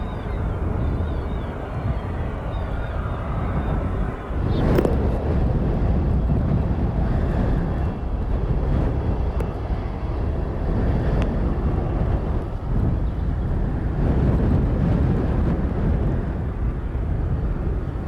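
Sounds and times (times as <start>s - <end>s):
aircraft engines rumbling: 0.0s - 18.0s
wind on the microphone: 0.0s - 18.0s.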